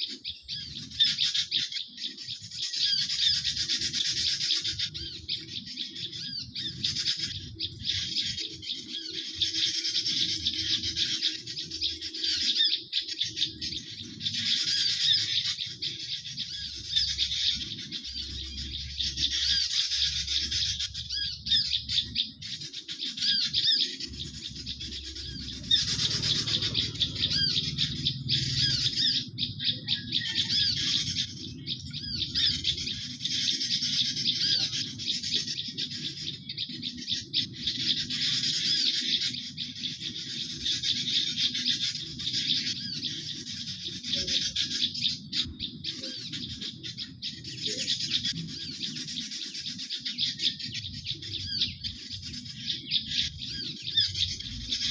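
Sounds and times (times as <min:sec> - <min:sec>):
small birds chirping and twittering: 0:00.0 - 0:54.9.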